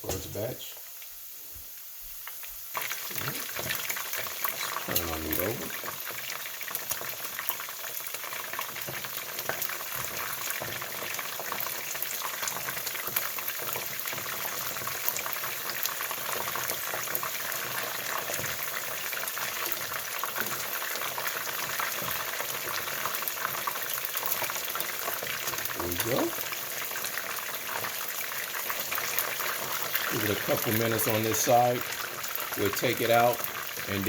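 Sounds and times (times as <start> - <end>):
chicken deep-frying in oil: 0.0 - 34.0.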